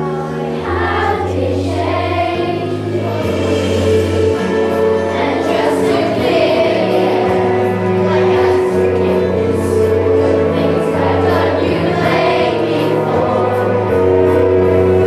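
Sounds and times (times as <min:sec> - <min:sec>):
children's choir singing: 0:00.0 - 0:15.0
instrumental accompaniment: 0:00.0 - 0:15.0.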